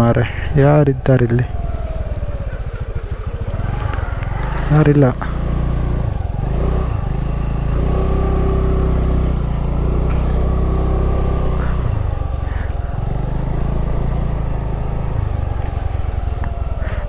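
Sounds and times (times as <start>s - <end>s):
motorcycle engine running: 0.0s - 17.0s
steady rushing hiss: 0.0s - 17.0s.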